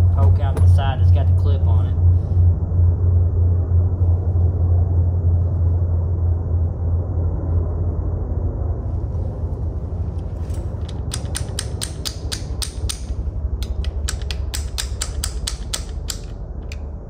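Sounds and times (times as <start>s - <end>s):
helicopters rumbling overhead: 0.0s - 17.0s.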